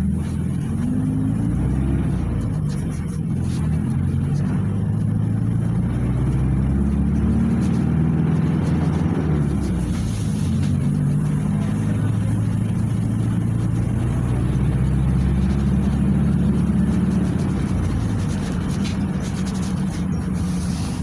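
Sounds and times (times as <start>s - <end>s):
bus engine running: 0.0s - 21.0s
road noise: 0.0s - 21.0s.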